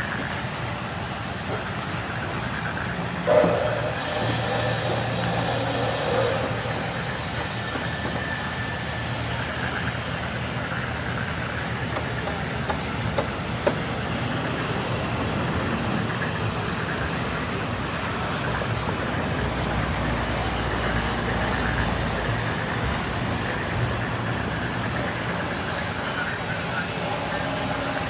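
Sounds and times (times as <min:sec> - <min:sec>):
band saw cutting timber: 0:01.4 - 0:28.0.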